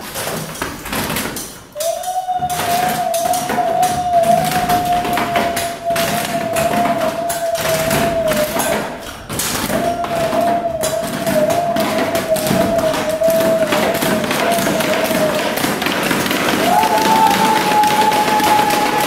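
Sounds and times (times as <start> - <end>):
hands thumping on metal railing: 0.0 - 19.0.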